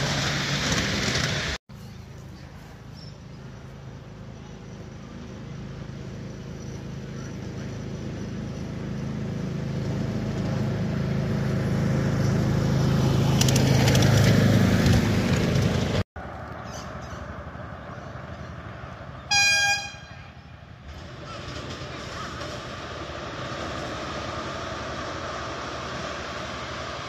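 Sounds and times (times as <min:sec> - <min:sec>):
miniature train rumble: 0:00.0 - 0:16.0, 0:17.2 - 0:27.0.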